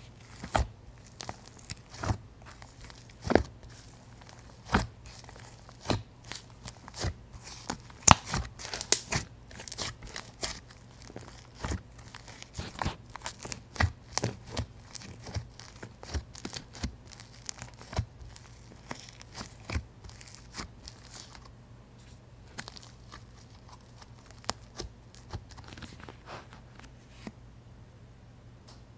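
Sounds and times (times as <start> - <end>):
slime crackling and popping: 0.2 - 21.5, 22.5 - 25.9.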